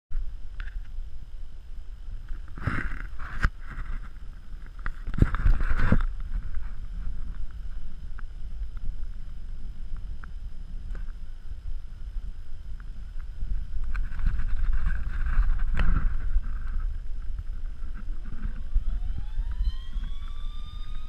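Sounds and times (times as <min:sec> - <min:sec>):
wind rumbling on microphone: 0:00.1 - 0:21.0.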